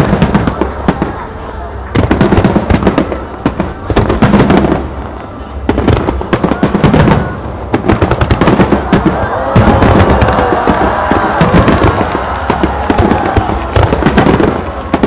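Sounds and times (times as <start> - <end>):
fireworks bursting in volleys: 0.0 - 15.0.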